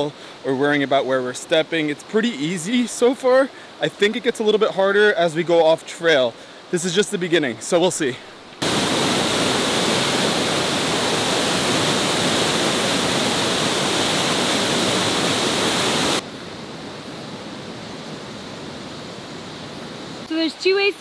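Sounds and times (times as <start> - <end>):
waterfall rushing: 0.0 - 20.8
faint background hiss: 0.0 - 21.0.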